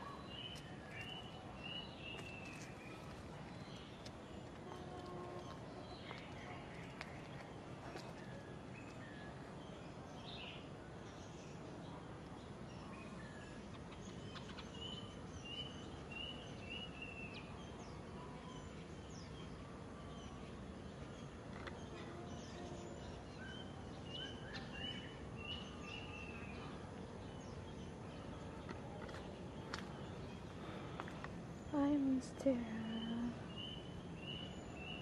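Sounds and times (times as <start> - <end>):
birds chirping: 0.0 - 35.0
faint background hiss: 0.0 - 35.0.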